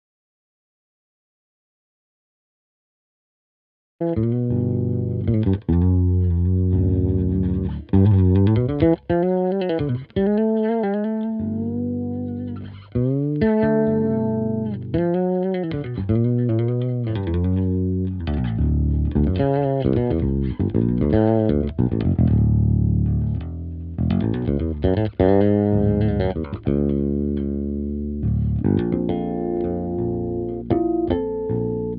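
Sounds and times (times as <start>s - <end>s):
fretless electric bass playing: 4.0s - 31.9s.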